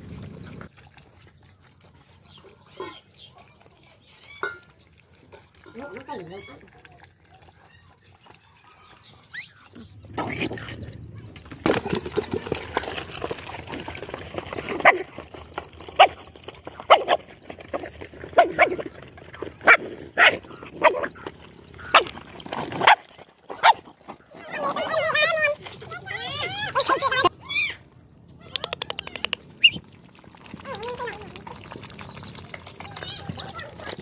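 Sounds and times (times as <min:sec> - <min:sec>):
puppies barking and yipping: 0:00.0 - 0:34.0.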